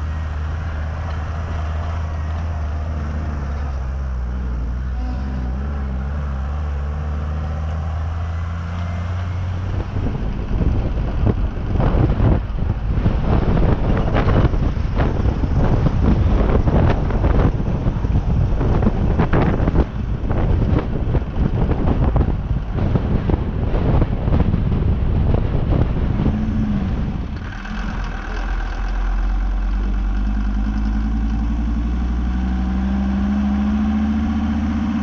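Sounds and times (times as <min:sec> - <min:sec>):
vehicle engine running: 0:00.0 - 0:35.0
wind noise on microphone: 0:00.0 - 0:35.0.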